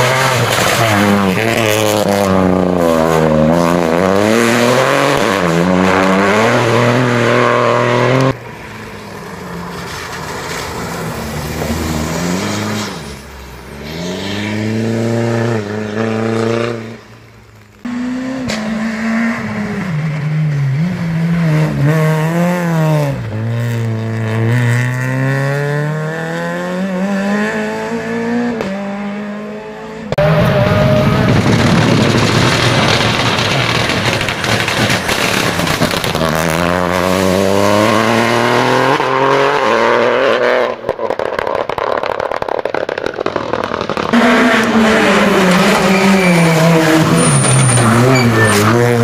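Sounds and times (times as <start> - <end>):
rally car engines revving: 0.0 - 17.1, 17.8 - 49.0.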